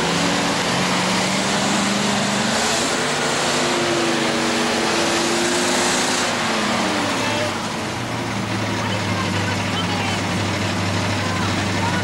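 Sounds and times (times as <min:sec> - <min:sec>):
engine working hard: 0:00.0 - 0:12.0.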